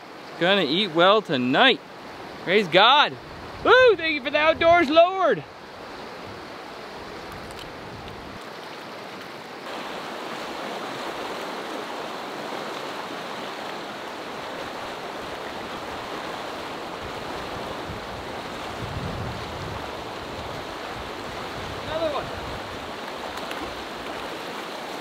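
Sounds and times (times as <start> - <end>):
river rushing over rapids: 0.0 - 25.0.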